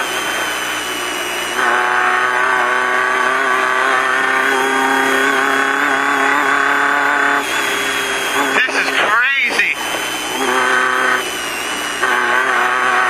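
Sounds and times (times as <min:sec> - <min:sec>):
race car engine running: 0:00.0 - 0:13.0.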